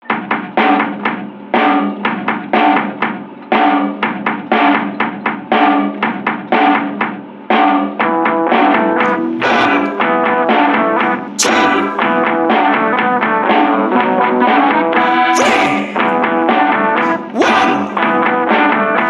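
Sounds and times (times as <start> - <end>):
drum-led instrumental music: 0.0 - 19.0.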